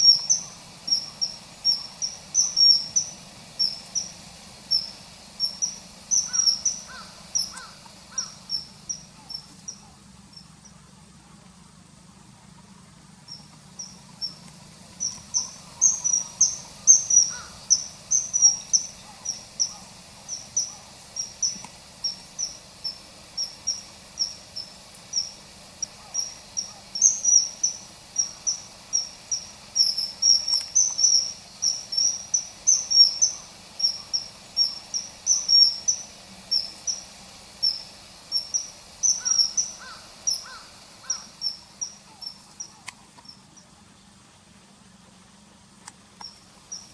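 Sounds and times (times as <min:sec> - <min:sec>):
kingfisher calling: 0:00.0 - 0:10.5, 0:13.2 - 0:42.8
faint low hum: 0:00.0 - 0:46.9.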